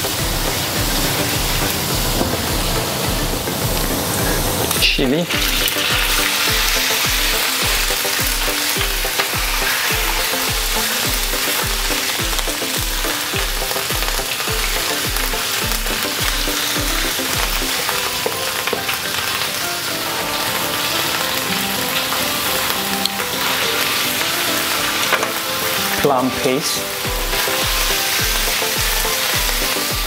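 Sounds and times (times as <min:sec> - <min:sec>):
garlic sizzling in hot oil: 0:00.0 - 0:30.0.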